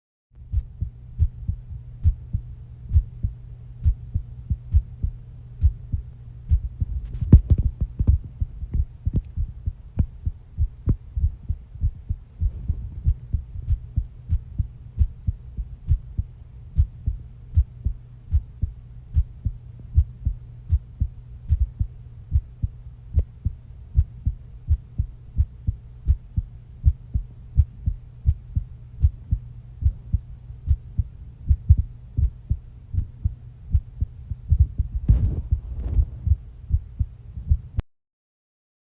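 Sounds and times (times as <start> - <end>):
heartbeat: 0.4 - 37.8
low hum: 0.4 - 37.8.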